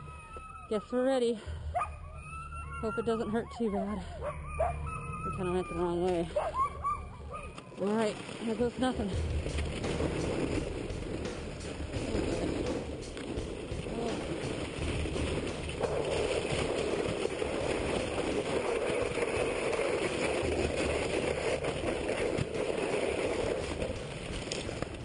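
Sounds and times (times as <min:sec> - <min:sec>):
sled runners scraping over ice: 0:04.2 - 0:25.0.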